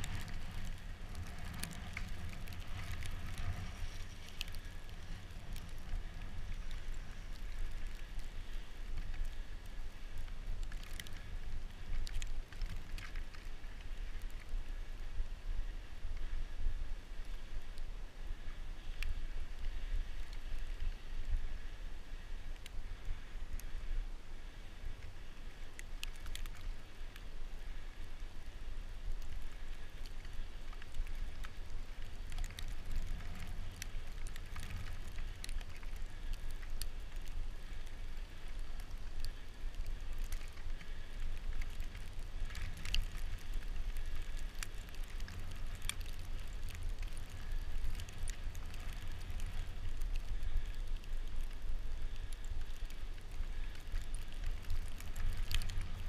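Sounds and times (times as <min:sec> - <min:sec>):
small ticks: 0:00.0 - 0:14.6, 0:18.9 - 0:21.4, 0:22.5 - 0:23.7, 0:25.0 - 0:28.2, 0:29.0 - 0:56.0
wind rumble on microphone: 0:00.0 - 0:56.0.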